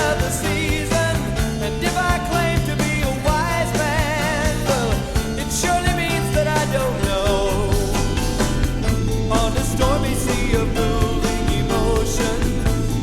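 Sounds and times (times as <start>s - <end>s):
rock song with singer: 0.0s - 13.0s.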